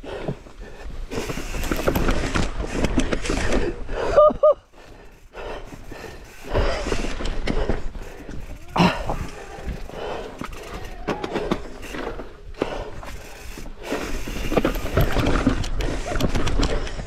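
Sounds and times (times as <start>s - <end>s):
mountain bike rattling on rocks: 0.1s - 17.0s.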